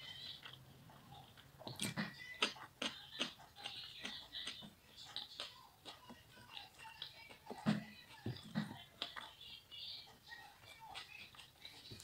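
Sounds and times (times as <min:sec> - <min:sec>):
chewing with wet mouth clicks: 0:00.0 - 0:12.0.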